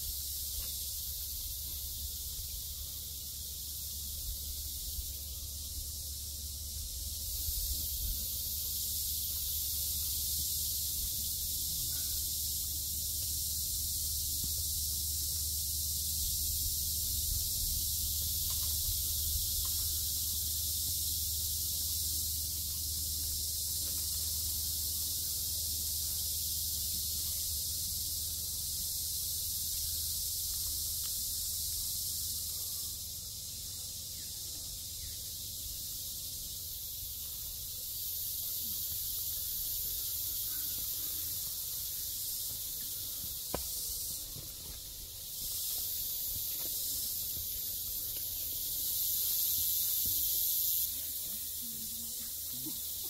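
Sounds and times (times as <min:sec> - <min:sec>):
high-pitched hiss: 0:00.0 - 0:53.0.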